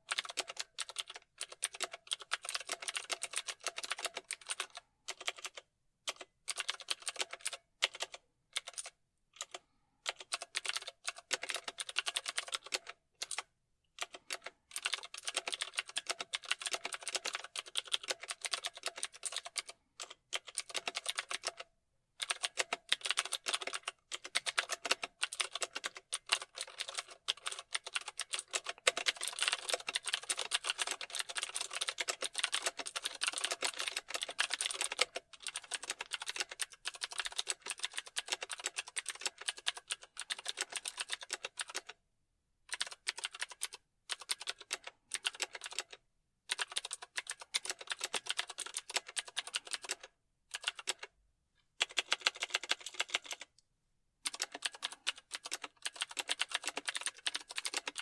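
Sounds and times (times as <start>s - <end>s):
computer keyboard typing: 0.0s - 42.0s, 42.7s - 51.2s, 51.8s - 53.6s, 54.2s - 58.0s.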